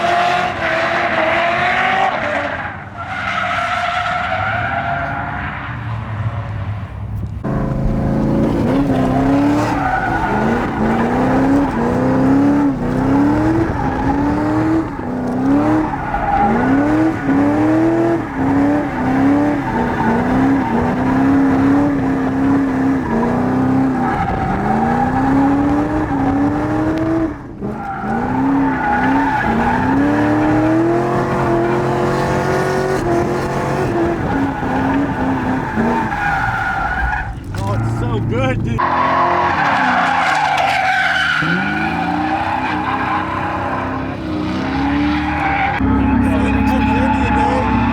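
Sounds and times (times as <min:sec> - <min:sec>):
tires squealing: 0:00.0 - 0:47.9
car engine revving: 0:04.2 - 0:47.9.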